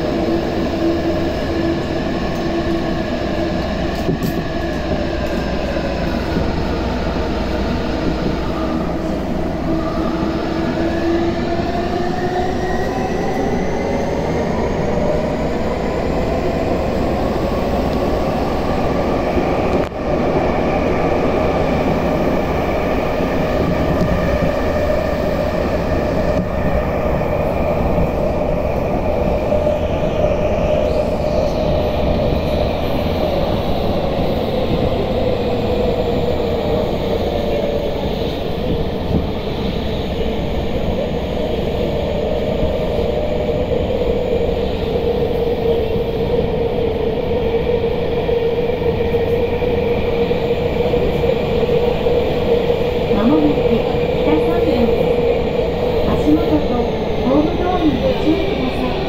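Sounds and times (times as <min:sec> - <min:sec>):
train inverter and motors whining: 0:00.0 - 0:59.0.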